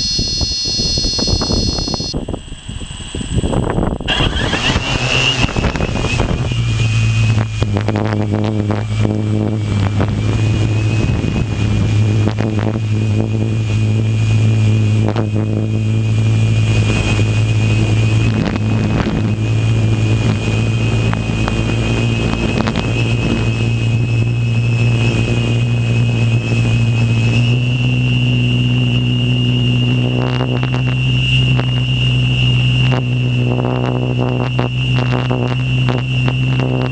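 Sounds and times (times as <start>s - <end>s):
drone motors buzzing hum: 0.0s - 36.9s.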